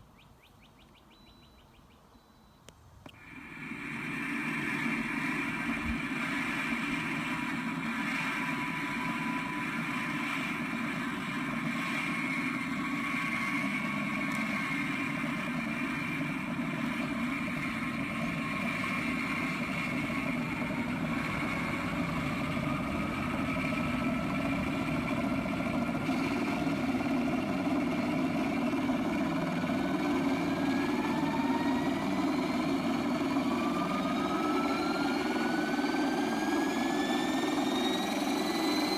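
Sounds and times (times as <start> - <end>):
model helicopter whine: 3.1 - 38.9
helicopter rotor noise: 3.2 - 38.9.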